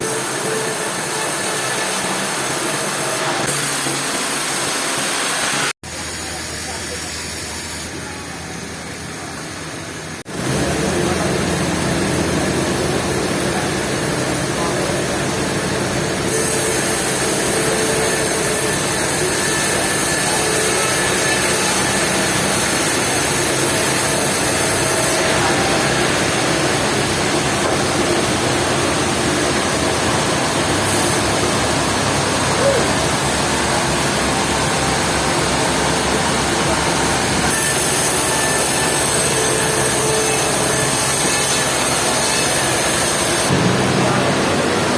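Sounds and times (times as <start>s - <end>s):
sawmill saw cutting log: 0.0s - 8.4s, 10.2s - 44.9s.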